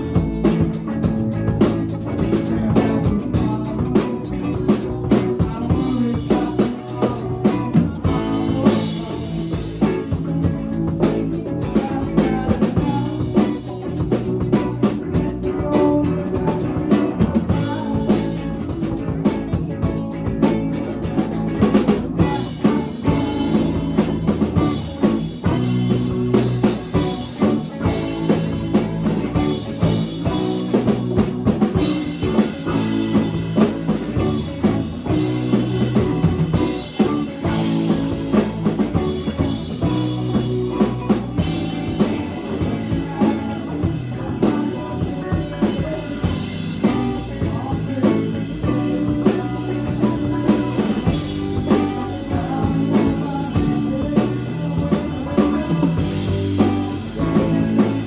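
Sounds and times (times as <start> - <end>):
live rock band playing: 0.0 - 58.0
snare and bass drum beat: 0.0 - 58.0.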